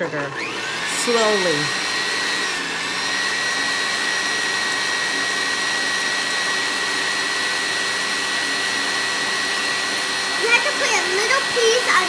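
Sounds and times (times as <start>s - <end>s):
stand mixer whipping egg whites: 0.0s - 12.0s.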